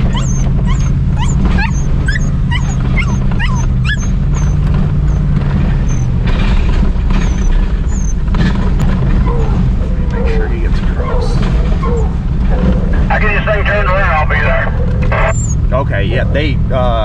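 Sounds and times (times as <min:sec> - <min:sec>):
hounds whining and yipping: 0:00.0 - 0:13.1, 0:14.8 - 0:15.7
truck engine droning: 0:00.0 - 0:17.0
tyres on a dirt road: 0:00.0 - 0:17.0.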